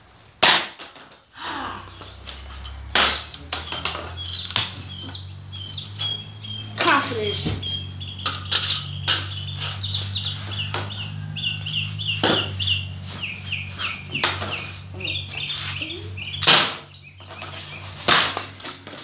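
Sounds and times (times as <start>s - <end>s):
songbird chirping: 0.0s - 18.9s.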